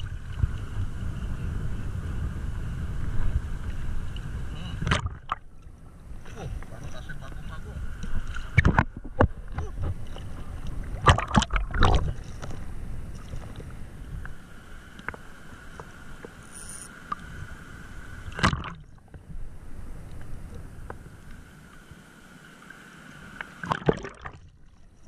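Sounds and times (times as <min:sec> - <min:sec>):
water lapping and sloshing: 0:00.0 - 0:01.0, 0:02.9 - 0:25.0
water splashes: 0:00.0 - 0:01.2, 0:03.2 - 0:19.2, 0:19.9 - 0:25.0.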